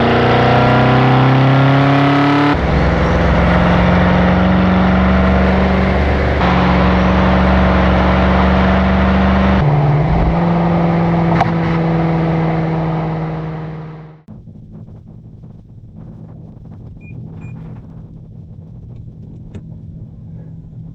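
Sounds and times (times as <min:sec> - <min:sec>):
car engine exhaust note: 0:00.0 - 0:20.9.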